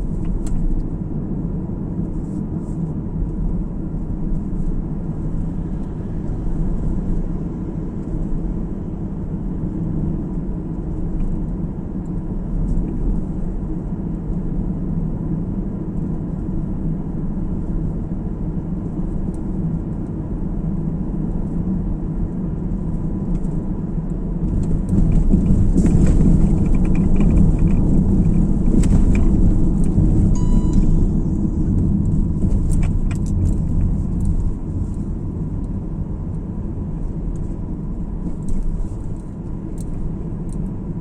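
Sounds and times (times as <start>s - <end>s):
car tyre and engine rumble: 0.0s - 41.0s.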